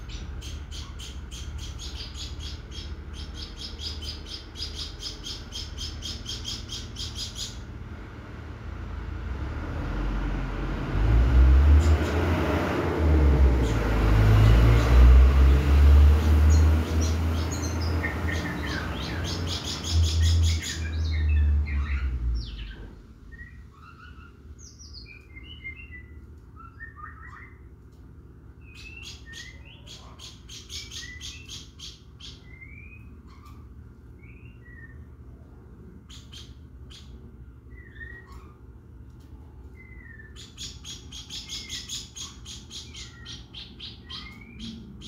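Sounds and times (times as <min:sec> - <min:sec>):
caged bird chirping and trilling: 0:00.0 - 0:45.0.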